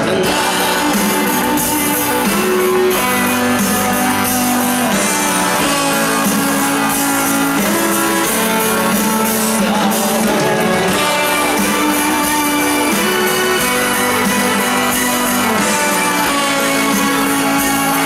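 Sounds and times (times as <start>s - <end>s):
electric guitar held notes: 0.0s - 18.0s
live rock band playing: 0.0s - 18.0s.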